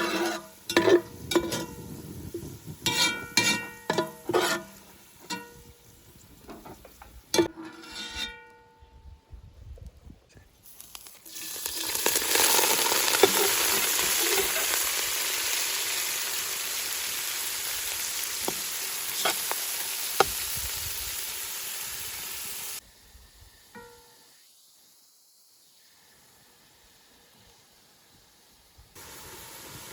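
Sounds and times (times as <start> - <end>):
food sizzling in hot oil: 0.0 - 6.2, 10.7 - 29.9.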